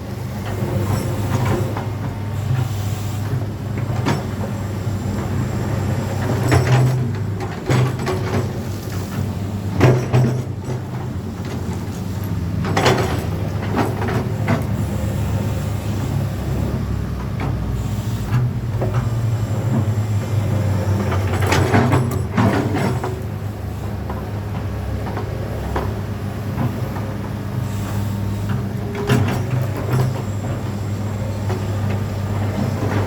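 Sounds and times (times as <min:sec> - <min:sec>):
excavator diesel engine droning: 0:00.0 - 0:33.0.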